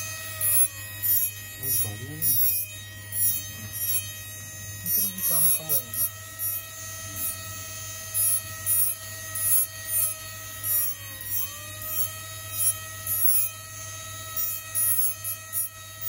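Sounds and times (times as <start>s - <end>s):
rotary handpiece high whine: 0.0s - 16.0s.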